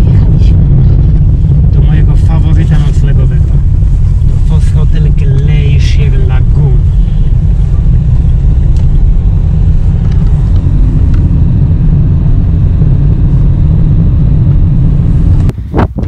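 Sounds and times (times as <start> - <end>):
car interior driving rumble: 0.0 - 16.0.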